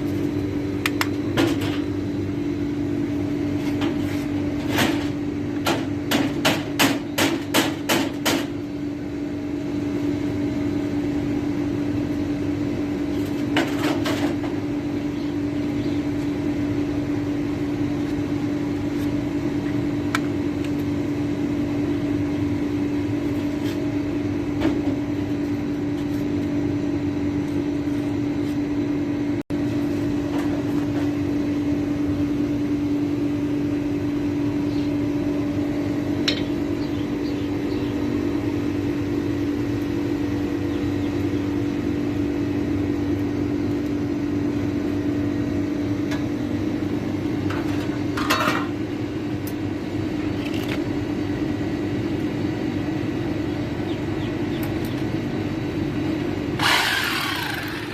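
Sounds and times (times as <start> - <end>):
low machine hum: 0.0 - 57.9.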